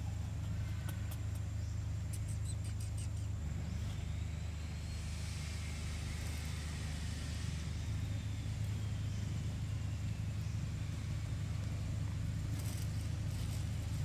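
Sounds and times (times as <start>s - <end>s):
faint high whine: 0.0s - 14.0s
low motor hum: 0.0s - 14.0s.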